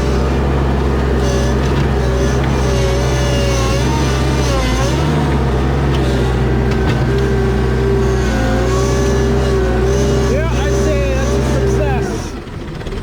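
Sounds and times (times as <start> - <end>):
diesel engine running under load: 0.0 - 13.0
hydraulic whine: 0.0 - 13.0.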